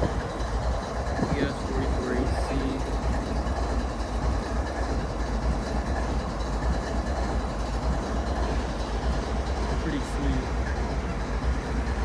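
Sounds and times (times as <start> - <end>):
locomotives idling low rumble: 0.0 - 12.0.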